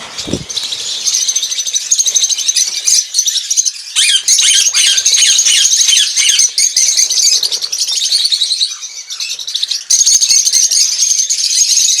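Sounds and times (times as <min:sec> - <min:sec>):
lovebirds chattering: 0:00.0 - 0:12.0.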